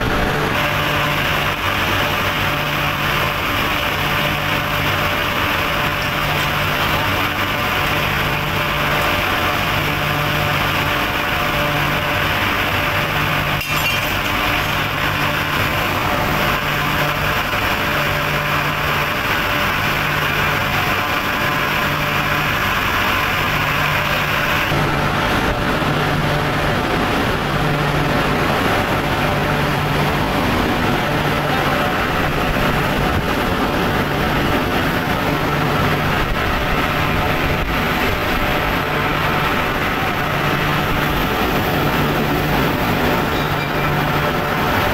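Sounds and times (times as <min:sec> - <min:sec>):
industrial machinery noise: 0:00.0 - 0:44.9
pulsing low hum: 0:00.0 - 0:44.9.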